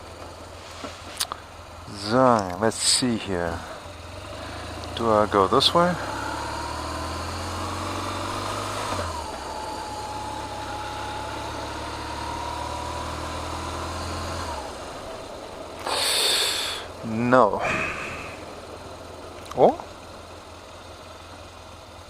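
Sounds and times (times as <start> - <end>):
motorcycle engine running slowly: 0.0 - 22.0.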